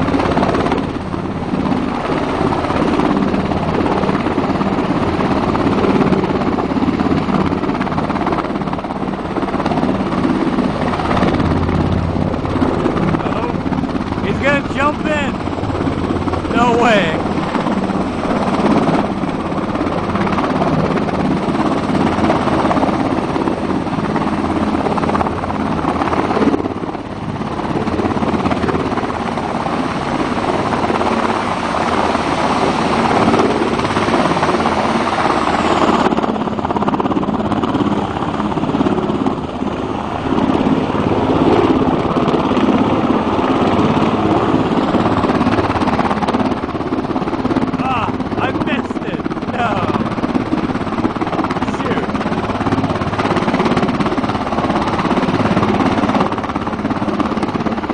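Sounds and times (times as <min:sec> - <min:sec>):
helicopter rotor and turbine: 0:00.0 - 0:57.9.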